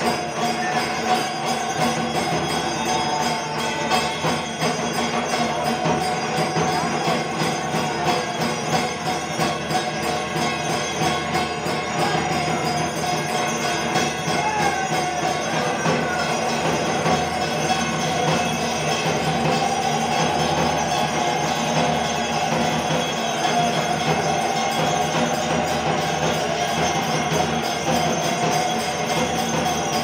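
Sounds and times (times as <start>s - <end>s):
bells and metal percussion clanging: 0.0s - 30.0s.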